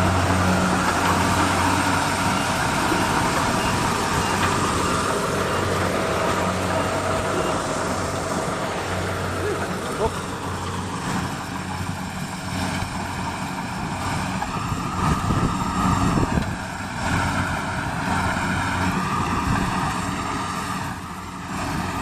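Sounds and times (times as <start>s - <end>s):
harvester engine running: 0.0s - 22.0s.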